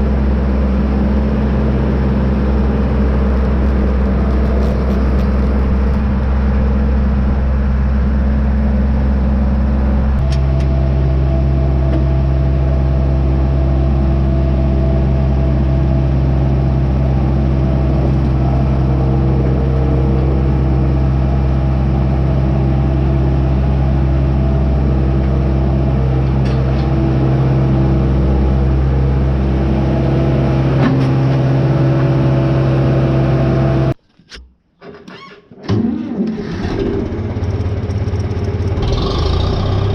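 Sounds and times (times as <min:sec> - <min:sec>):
tractor engine running: 0:00.0 - 0:34.2, 0:35.7 - 0:39.9.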